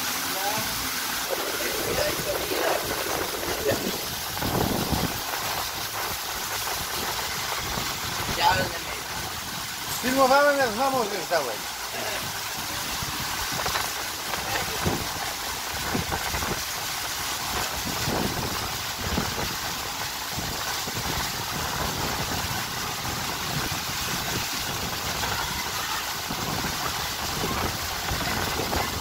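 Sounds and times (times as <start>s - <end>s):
water rushing down slide: 0.0s - 29.0s.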